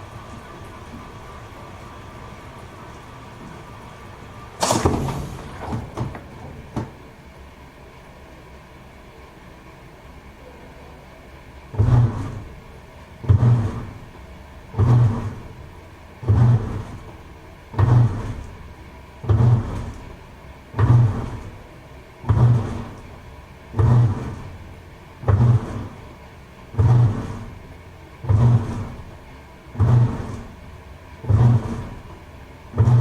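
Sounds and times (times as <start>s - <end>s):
washing machine agitating: 0.0s - 9.4s, 10.0s - 33.0s.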